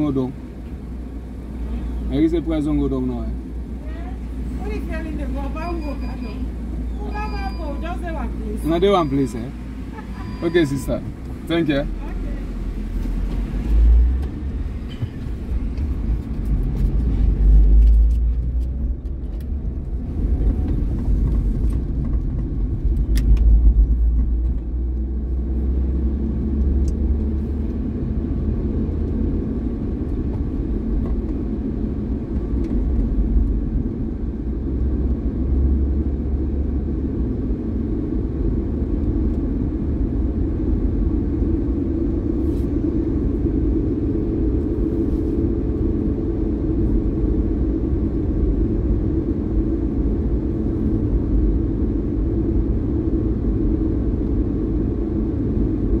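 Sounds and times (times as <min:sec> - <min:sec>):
car engine and road noise: 0:00.0 - 0:56.0
deep rumble: 0:00.0 - 0:56.0.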